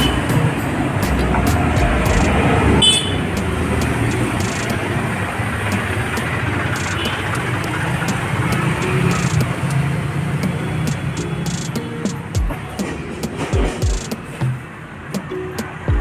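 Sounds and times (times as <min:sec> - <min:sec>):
engines idling: 0:00.0 - 0:16.0
road traffic rumble: 0:00.0 - 0:16.0.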